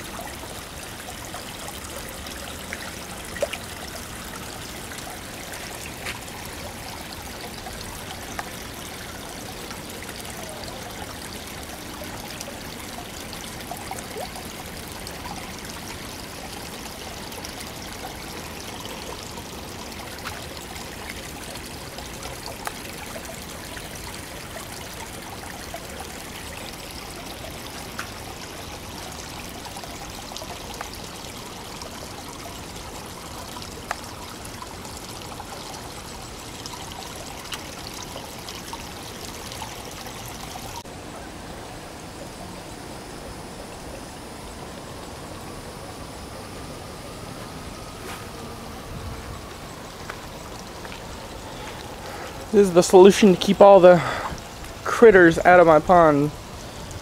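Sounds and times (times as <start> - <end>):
water trickling into pond: 0.0 - 57.0.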